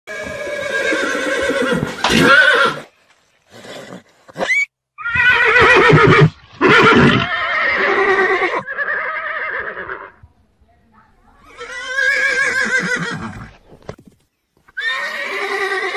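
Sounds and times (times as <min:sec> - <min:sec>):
horses whinnying: 0:00.1 - 0:02.9, 0:03.5 - 0:10.2, 0:11.4 - 0:13.7, 0:14.7 - 0:15.9.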